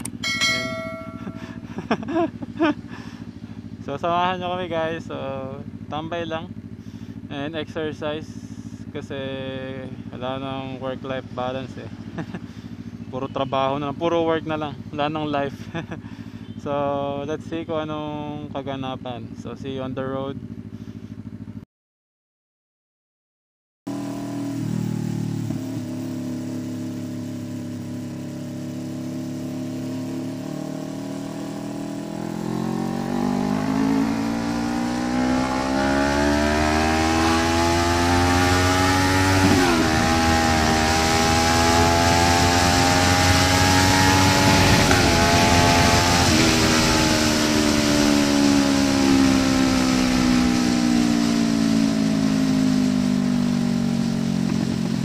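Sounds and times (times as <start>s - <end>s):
motorcycle engine accelerating: 0.0s - 18.5s, 20.3s - 21.6s, 23.9s - 55.0s.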